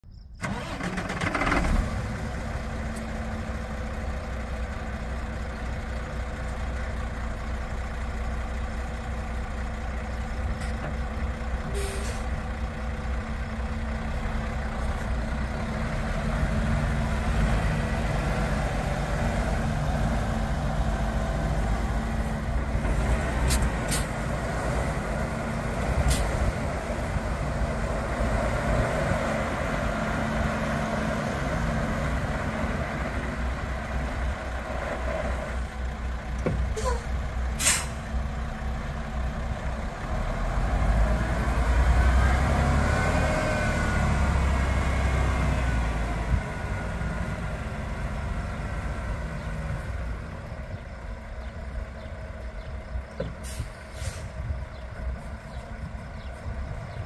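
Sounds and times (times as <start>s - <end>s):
diesel truck engine running: 0.1s - 57.0s.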